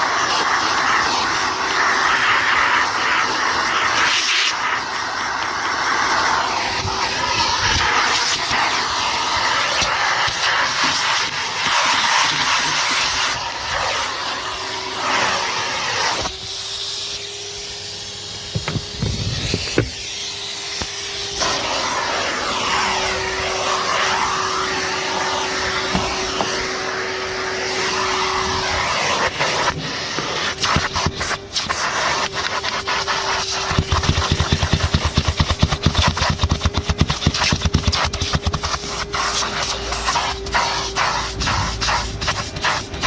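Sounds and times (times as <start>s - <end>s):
vacuum cleaner running: 0.0s - 43.0s.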